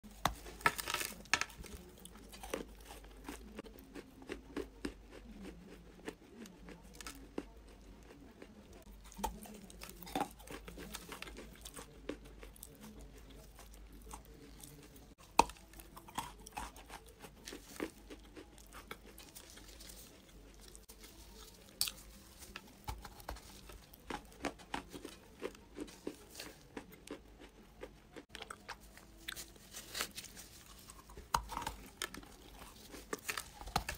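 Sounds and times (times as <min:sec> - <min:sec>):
crunchy chewing of clay: 0:00.0 - 0:33.9.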